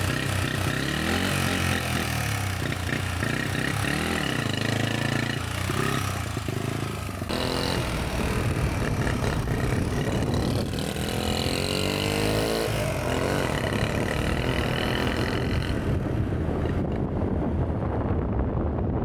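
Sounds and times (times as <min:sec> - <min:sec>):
small engine running: 0:00.0 - 0:16.8.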